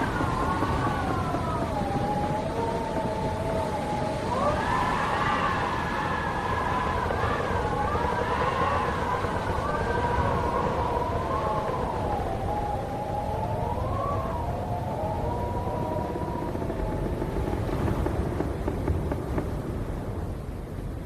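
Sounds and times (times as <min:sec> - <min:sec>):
howling wind whistle: 0:00.0 - 0:21.0
low rushing wind rumble: 0:00.0 - 0:21.0.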